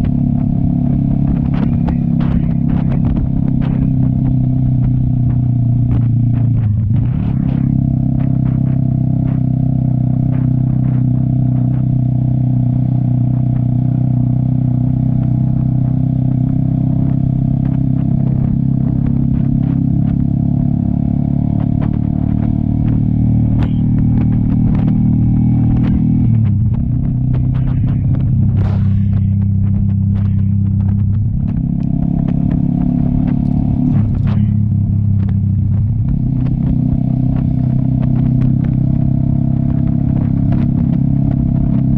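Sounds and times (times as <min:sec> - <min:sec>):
motorcycle engine cruising: 0:00.0 - 0:41.9.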